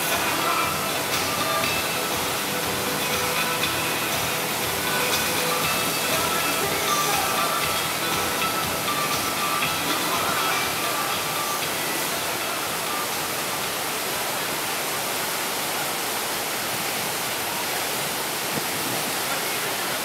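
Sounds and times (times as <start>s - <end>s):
rushing water wave: 0.0s - 20.0s.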